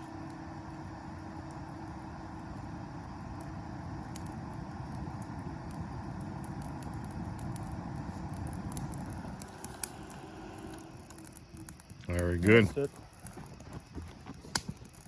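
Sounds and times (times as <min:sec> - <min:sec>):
forced air and flame rushing: 0:00.0 - 0:15.0
wood crackling and popping: 0:00.0 - 0:15.0.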